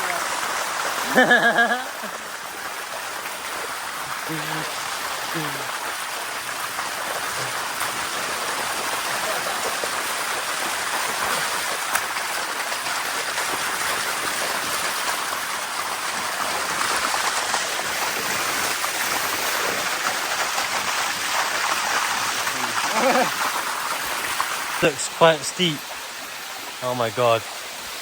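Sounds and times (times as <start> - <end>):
waterfall rushing over rocks: 0.0 - 28.0.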